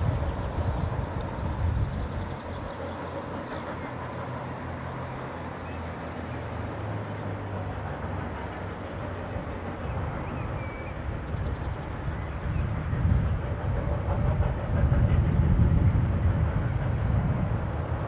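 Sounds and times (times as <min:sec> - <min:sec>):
distant train rumble: 0:00.0 - 0:18.0.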